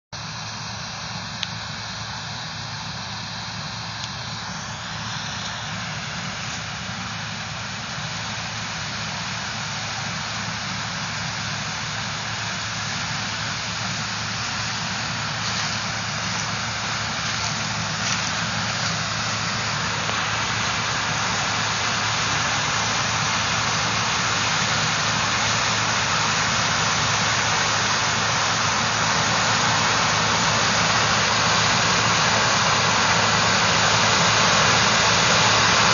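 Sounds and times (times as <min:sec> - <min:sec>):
broad rushing noise: 0:00.2 - 0:35.9
harvest machinery engine hum: 0:00.2 - 0:35.9.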